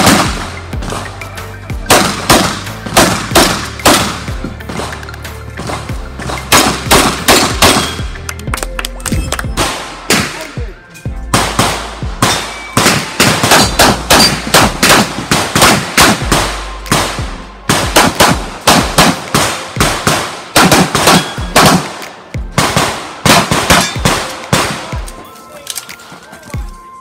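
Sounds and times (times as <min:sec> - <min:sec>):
handgun shots echoing: 0:00.0 - 0:01.1, 0:01.9 - 0:08.2, 0:11.3 - 0:25.8.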